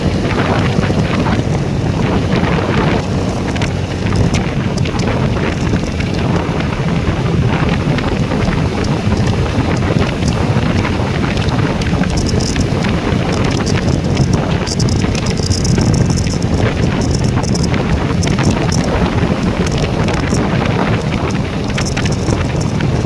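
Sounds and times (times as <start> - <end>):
motorcycle road and engine noise: 0.0 - 23.0
small crackles: 0.0 - 23.0
wind buffeting microphone: 0.0 - 23.0.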